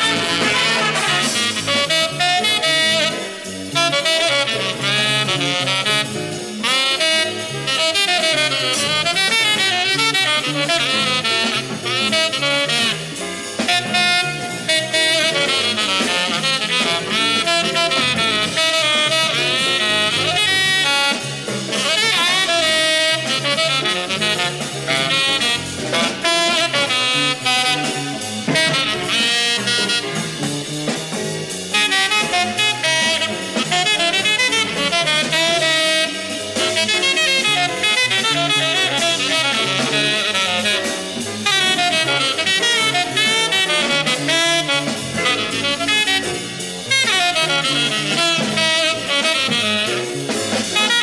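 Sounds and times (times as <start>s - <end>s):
bebop jazz from vinyl: 0.0s - 51.0s
tenor saxophone melody: 0.0s - 51.0s.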